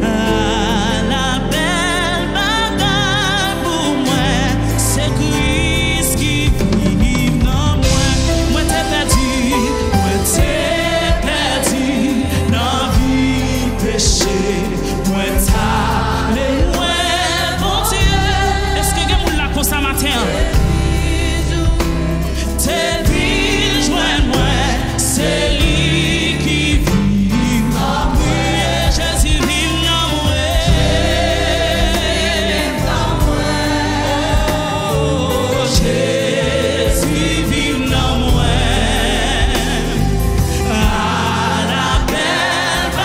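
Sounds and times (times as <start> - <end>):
band playing: 0.0 - 43.0
electronic keyboard: 0.0 - 43.0
singing voices: 0.0 - 43.0.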